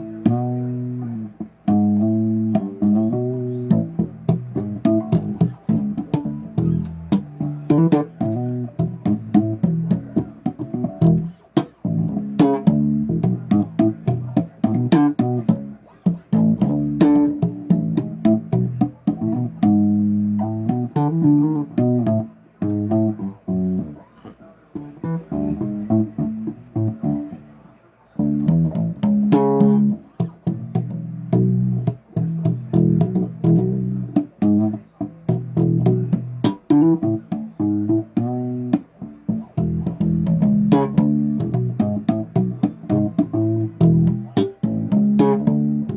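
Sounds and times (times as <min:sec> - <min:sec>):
bass guitar playing: 0:00.0 - 0:45.9.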